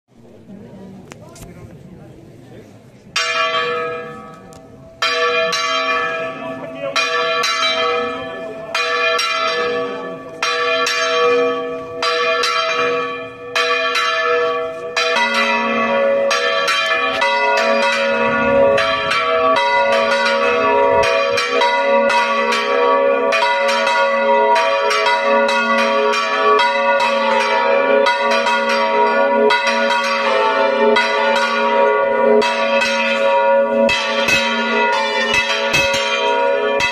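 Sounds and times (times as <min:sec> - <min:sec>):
church bells pealing: 0:03.1 - 0:36.9.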